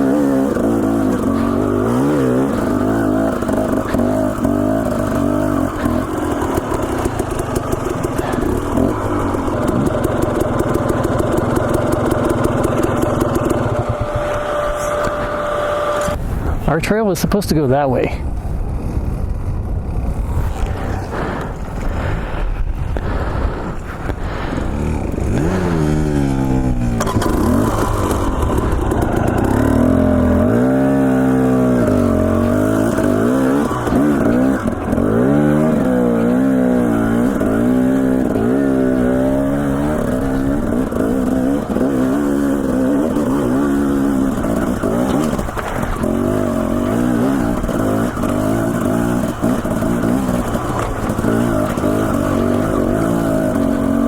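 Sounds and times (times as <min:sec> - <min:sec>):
dirt bike engine revving: 0:00.0 - 0:16.2, 0:18.4 - 0:54.0.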